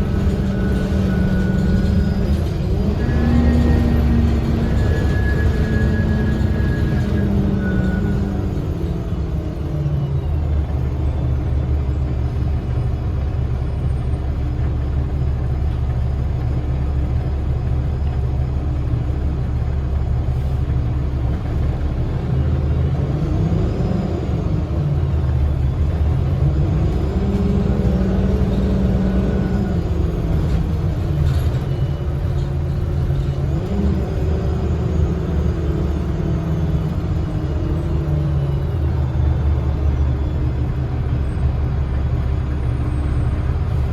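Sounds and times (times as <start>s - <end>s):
bus engine low rumble: 0.0s - 43.9s.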